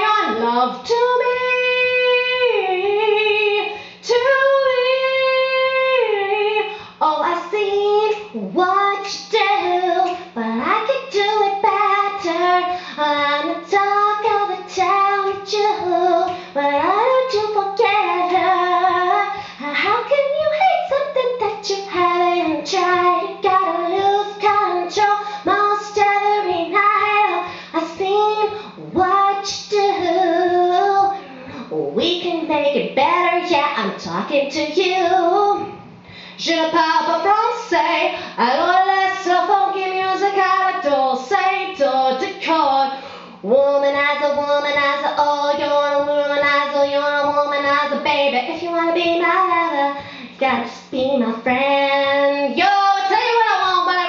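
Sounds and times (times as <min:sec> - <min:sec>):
steady low hum: 0:00.0 - 0:54.0
woman singing into a microphone: 0:00.0 - 0:54.0.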